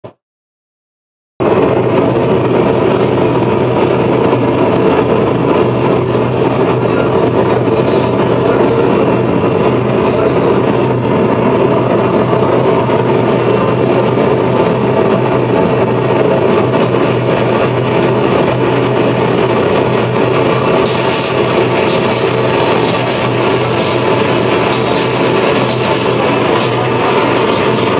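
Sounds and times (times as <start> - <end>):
distorted electronic noise music: 1.4 - 27.9
low hum: 1.4 - 27.9.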